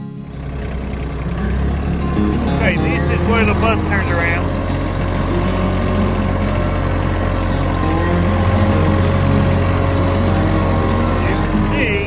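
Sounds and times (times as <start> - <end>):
tires on gravel: 0.0 - 12.0
tractor diesel engine running: 0.0 - 12.0.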